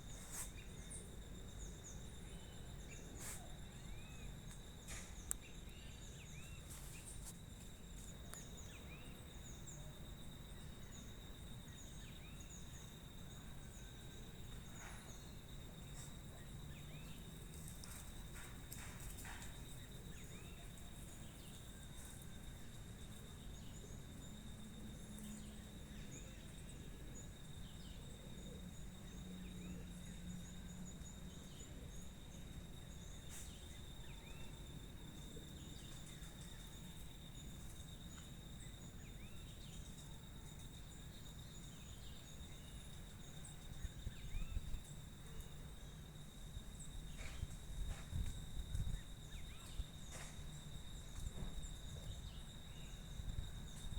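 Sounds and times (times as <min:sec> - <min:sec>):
insect trill: 0:00.0 - 0:53.9.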